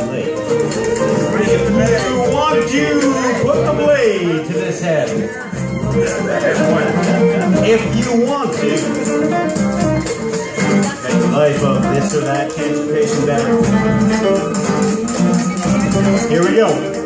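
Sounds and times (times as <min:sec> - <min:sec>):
acoustic guitar playing: 0:00.0 - 0:17.0
maracas shaken: 0:00.0 - 0:17.0.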